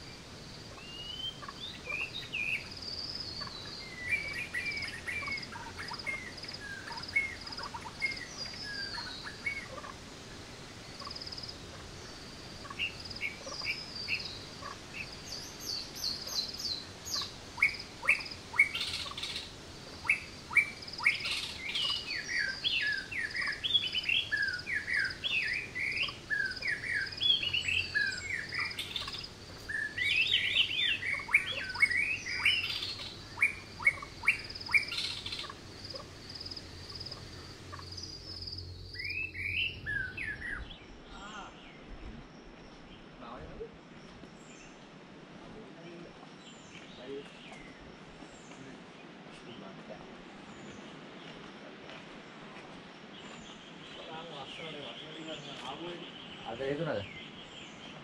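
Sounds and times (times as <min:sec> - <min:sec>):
forest birds chirping: 0:00.0 - 0:58.0.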